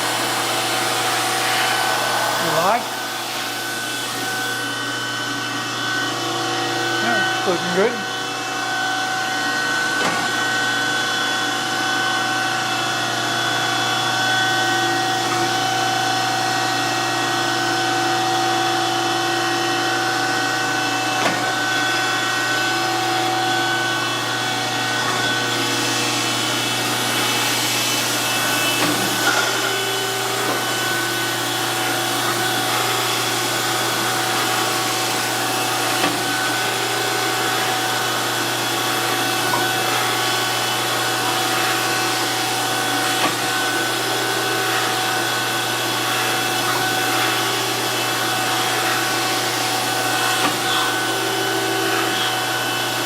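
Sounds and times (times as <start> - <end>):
surface grinder grinding metal: 0.0 - 10.4, 20.9 - 53.0.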